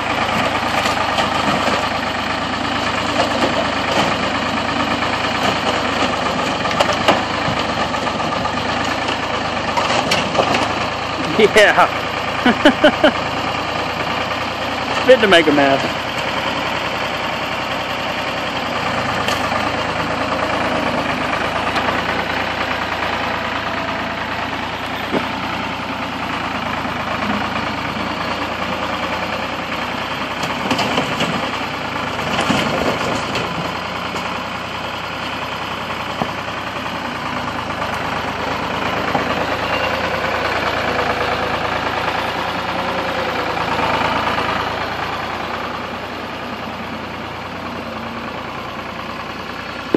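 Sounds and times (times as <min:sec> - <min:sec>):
engine running: 0:00.0 - 0:49.9.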